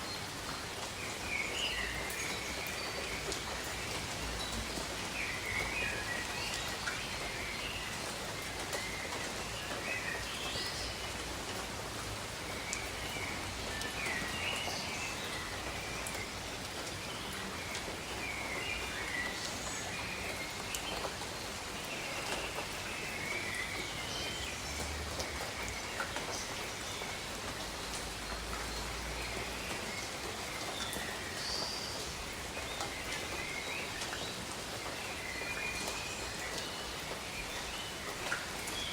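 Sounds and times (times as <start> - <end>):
rain on foliage: 0.0 - 38.9
water drips: 0.2 - 38.9.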